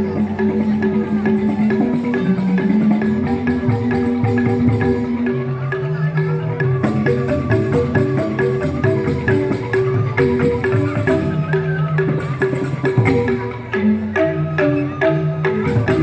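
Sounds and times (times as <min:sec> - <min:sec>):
bamboo xylophones playing: 0:00.0 - 0:16.0.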